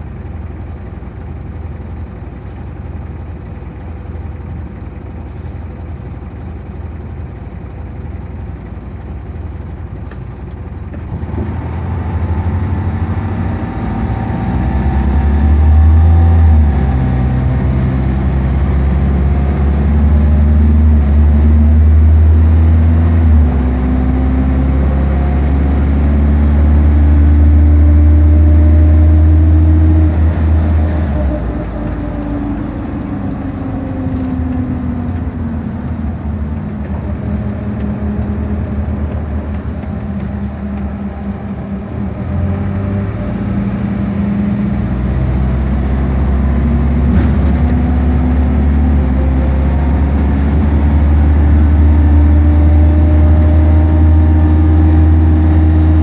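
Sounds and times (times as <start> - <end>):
bus diesel engine accelerating: 0.0 - 56.0.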